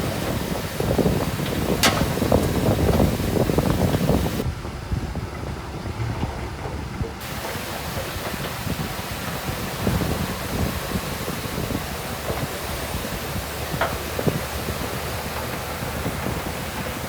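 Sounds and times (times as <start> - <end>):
heavy machinery rumbling: 0.0 - 17.0
wind buffeting the microphone: 0.0 - 17.0.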